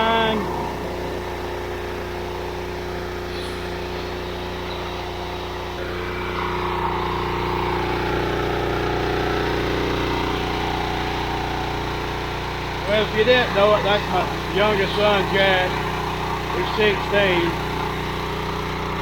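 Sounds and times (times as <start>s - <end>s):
high-pressure spray hissing: 0.0s - 18.0s
pressure washer engine running: 0.0s - 19.0s.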